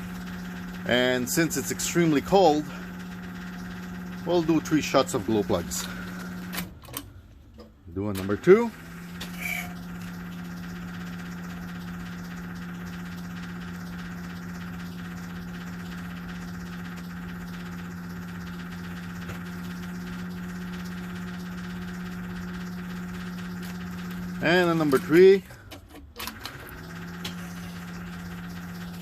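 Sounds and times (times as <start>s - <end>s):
vehicle electrical hum: 0.0s - 29.0s.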